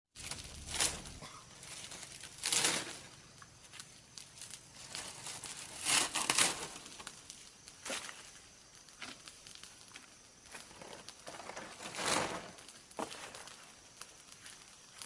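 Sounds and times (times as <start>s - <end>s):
rustling and crinkling: 0.2s - 15.0s.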